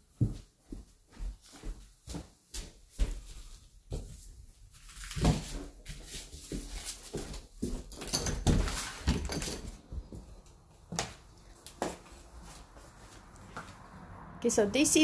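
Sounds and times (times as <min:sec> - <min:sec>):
footsteps on floor: 0:00.0 - 0:04.4, 0:05.2 - 0:13.8.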